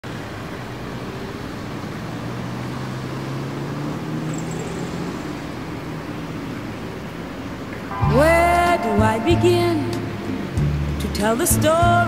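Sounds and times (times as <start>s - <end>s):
vehicle engines hum: 0.0s - 12.0s.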